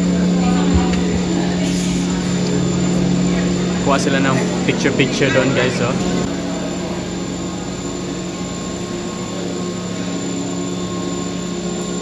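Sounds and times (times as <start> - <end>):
cable car machinery humming: 0.0 - 12.0.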